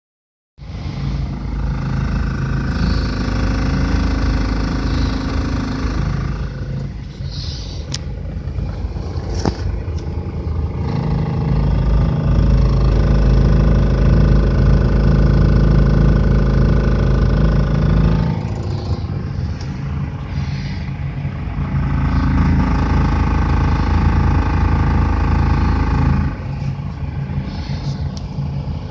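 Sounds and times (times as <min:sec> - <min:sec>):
loud many-toned whine: 0:00.6 - 0:28.9
van engine idling: 0:00.6 - 0:28.9.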